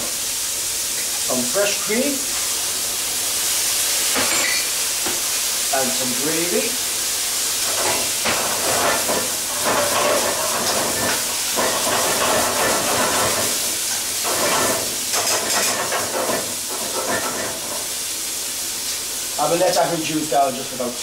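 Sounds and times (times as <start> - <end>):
sauce hissing and bubbling in pan: 0.0 - 21.0.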